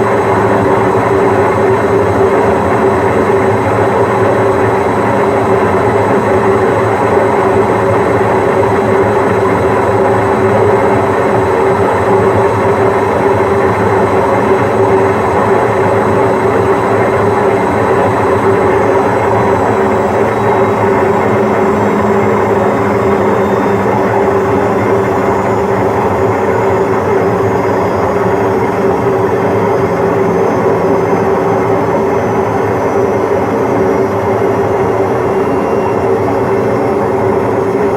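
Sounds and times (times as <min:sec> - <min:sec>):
washing machine spinning: 0:00.0 - 0:37.9.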